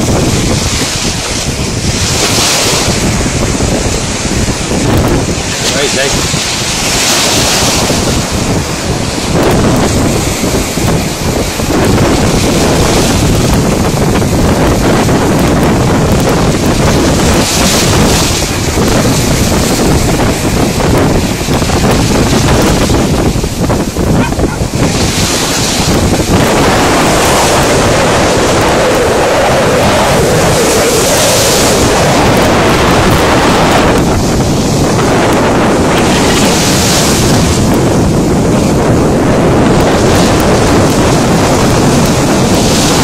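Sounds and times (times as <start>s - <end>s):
sea waves breaking in surf: 0.0s - 43.0s
wind buffeting microphone: 0.0s - 43.0s.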